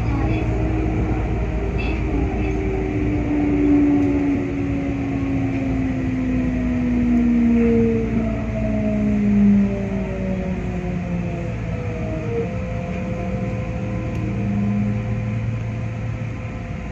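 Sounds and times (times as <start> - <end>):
electric train motors whining: 0.0 - 16.9
wheels rumbling on track: 0.0 - 16.9.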